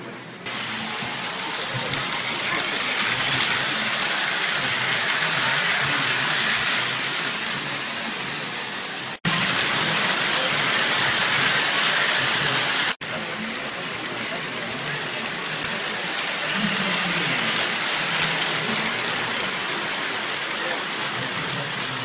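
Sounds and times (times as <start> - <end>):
hubbub of a busy hall: 0.0 - 22.0
model trains running on track: 0.4 - 22.0.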